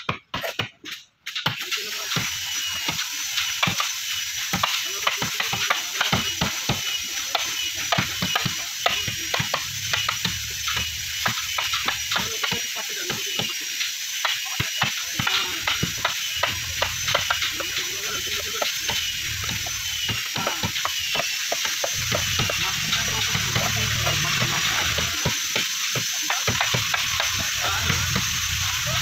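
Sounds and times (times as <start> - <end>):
hammers tapping on chisels: 0.0 - 29.0
steady hiss: 1.3 - 29.0.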